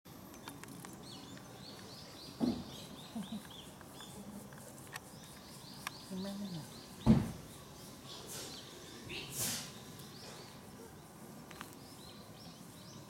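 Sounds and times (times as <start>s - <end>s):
small bird chirping: 0.3s - 13.0s.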